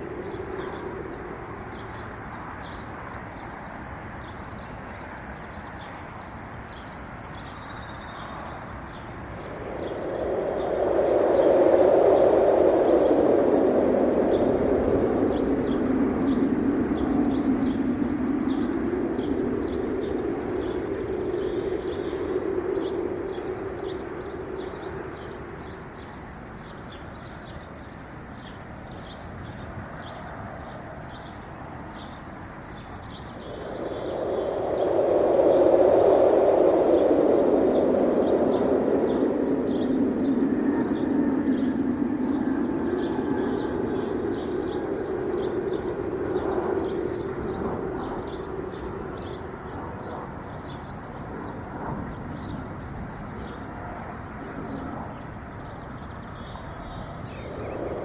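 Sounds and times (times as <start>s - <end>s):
small birds chirping: 0.0s - 58.0s
wind gusts: 0.0s - 58.0s.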